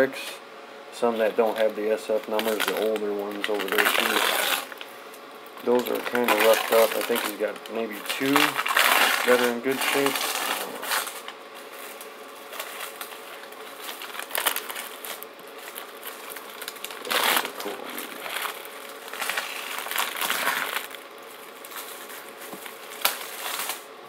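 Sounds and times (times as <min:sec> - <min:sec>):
paper and cellophane crinkling: 0:01.2 - 0:04.9, 0:05.6 - 0:23.9.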